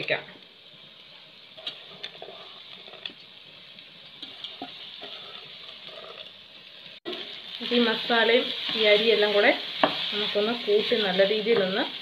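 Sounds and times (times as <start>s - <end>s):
quiet sizzle: 0.0s - 12.0s.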